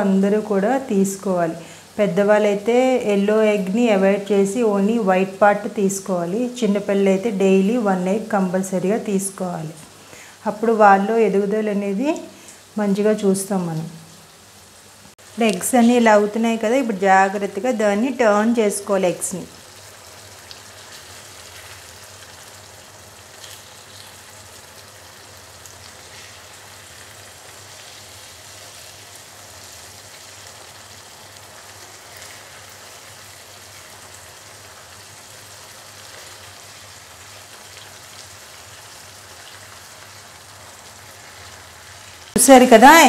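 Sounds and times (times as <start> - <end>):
gravy sizzling in a frying pan: 0.0 - 43.0.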